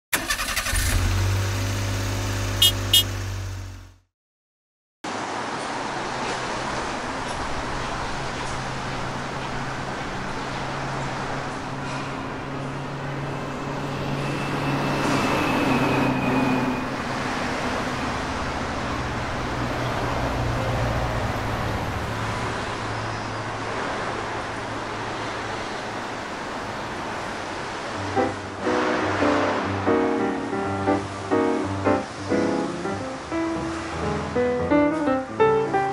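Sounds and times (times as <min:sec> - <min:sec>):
street traffic hum: 0:00.2 - 0:04.0, 0:05.1 - 0:35.9.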